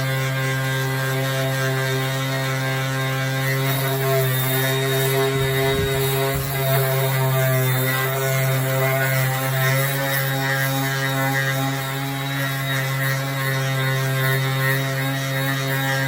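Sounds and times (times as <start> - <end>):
sander humming: 0.0 - 16.0.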